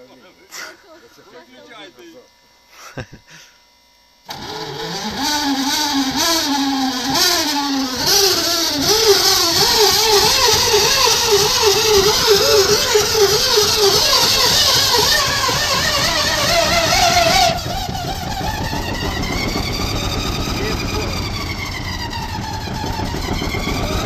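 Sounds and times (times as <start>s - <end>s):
tank diesel engine revving: 4.3s - 24.0s.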